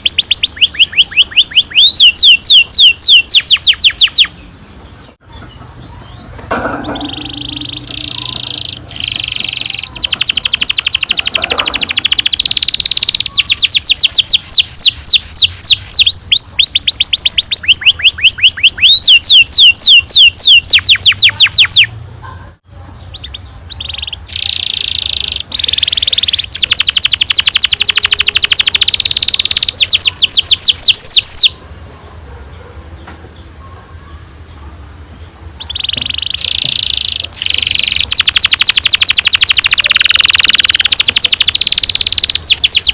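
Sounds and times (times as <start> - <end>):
canary singing trills: 0.0 - 31.6, 32.3 - 42.9.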